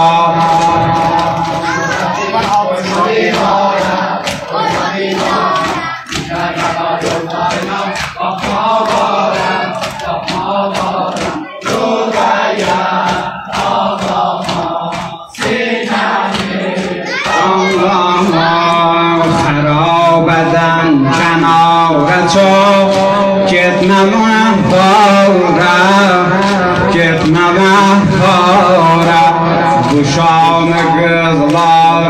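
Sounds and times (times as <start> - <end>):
men chanting: 0.0 - 32.0
person singing: 0.0 - 32.0.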